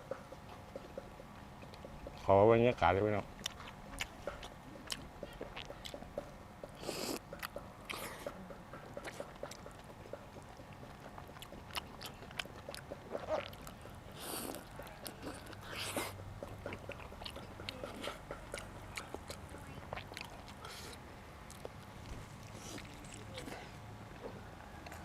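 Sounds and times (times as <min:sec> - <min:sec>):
person chewing food: 0:03.4 - 0:25.0.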